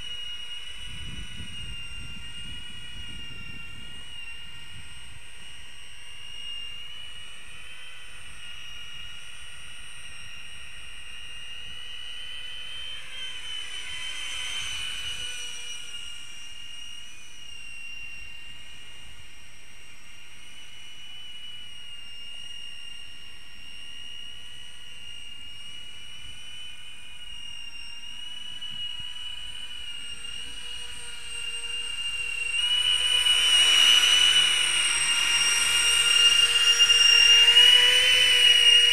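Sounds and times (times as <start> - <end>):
drone fans whining: 0.0 - 38.9.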